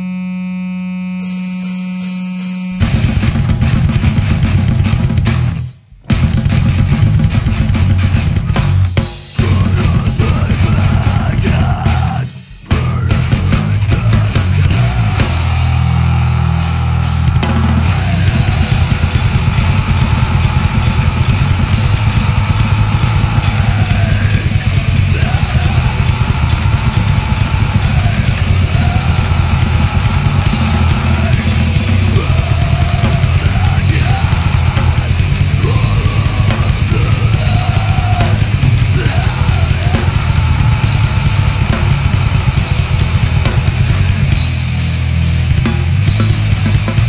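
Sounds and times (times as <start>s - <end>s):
grindcore band playing: 1.2s - 47.0s.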